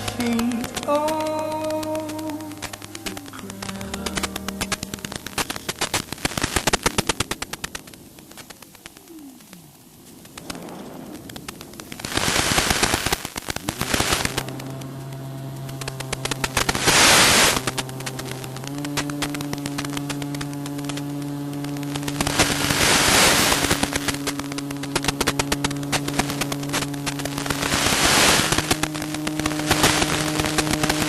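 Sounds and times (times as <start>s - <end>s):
drone motors buzzing: 0.0s - 31.0s
rushes of air noise: 0.0s - 31.0s.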